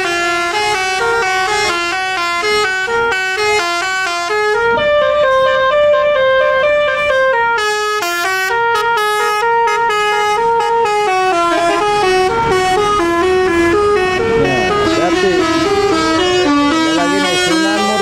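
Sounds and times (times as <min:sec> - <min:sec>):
bus horn playing melody: 0:00.0 - 0:18.0.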